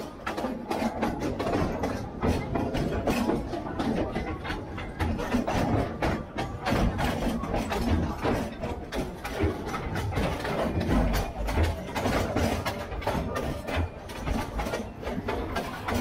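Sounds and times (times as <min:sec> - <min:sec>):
wheels clattering over rail joints: 0:00.0 - 0:16.0.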